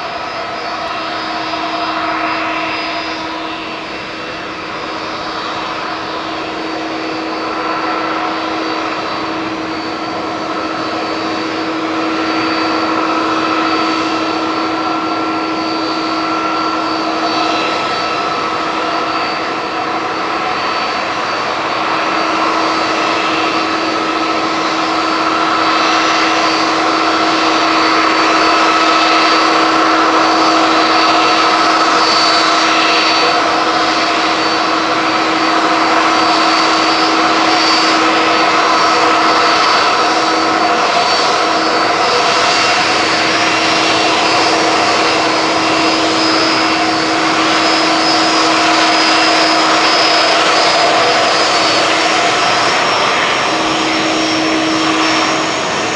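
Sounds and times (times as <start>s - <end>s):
jet engines roaring and whining: 0.0s - 55.9s.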